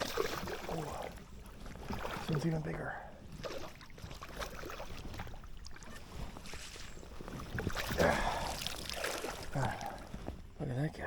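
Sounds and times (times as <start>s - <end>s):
water splashing: 0.0s - 10.3s.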